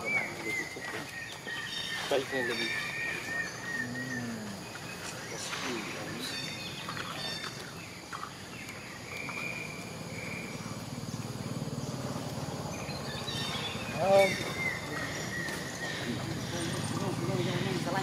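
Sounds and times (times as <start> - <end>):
low background buzz: 0.0 - 18.0.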